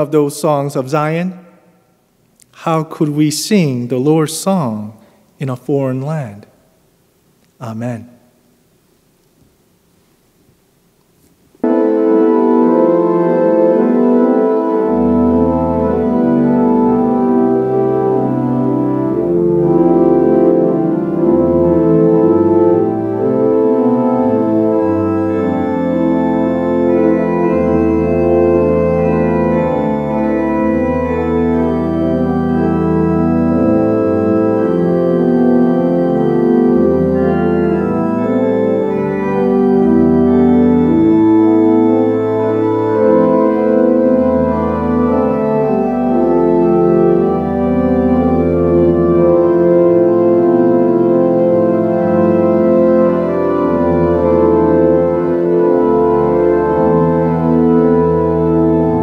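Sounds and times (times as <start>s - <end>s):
church organ chords: 0.0s - 6.6s, 11.6s - 59.0s
organ pedal bass notes: 11.6s - 59.0s.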